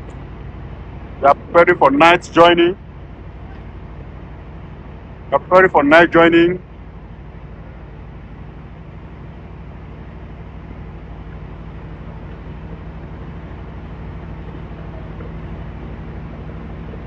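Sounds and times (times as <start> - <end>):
truck diesel engine idling: 0.0 - 17.0.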